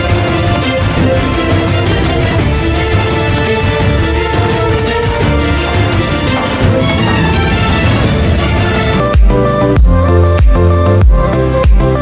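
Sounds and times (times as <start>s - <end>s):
melodic background music: 0.0s - 12.0s
steady bass pulse: 0.0s - 12.0s.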